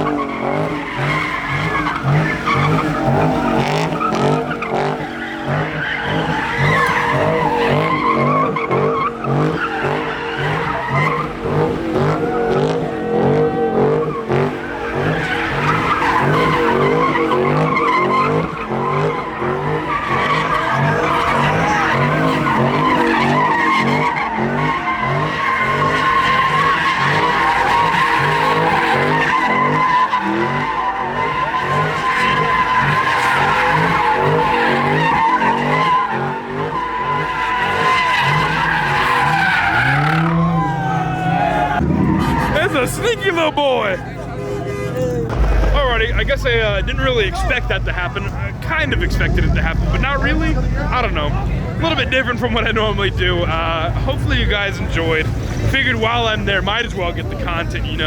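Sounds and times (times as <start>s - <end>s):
engine revving: 0.0s - 58.0s
tyres squealing: 0.0s - 58.0s.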